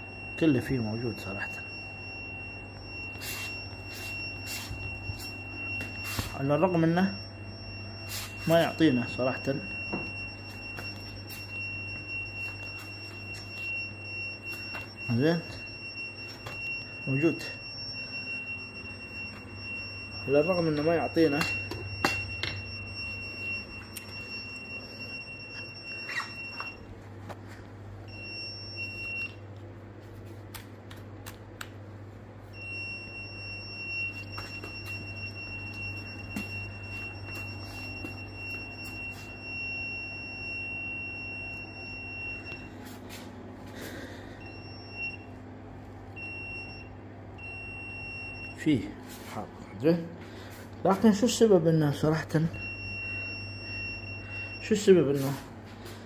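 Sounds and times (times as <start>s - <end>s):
short beeps: 0.0s - 26.9s, 28.0s - 29.4s, 32.6s - 42.9s, 43.8s - 45.4s, 46.2s - 49.4s, 51.9s - 55.5s
voltage detector high-pitched tone: 0.0s - 26.9s, 28.0s - 29.4s, 32.5s - 43.0s, 46.2s - 49.0s, 50.9s - 55.5s.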